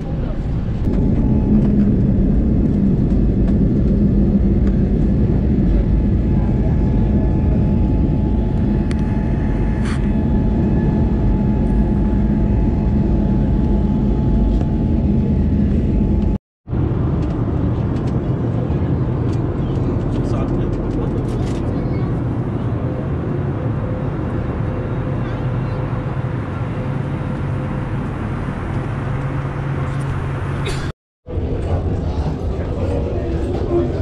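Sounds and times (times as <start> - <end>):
airplane cabin noise: 0.0 - 34.0
jet engines roaring: 0.0 - 34.0.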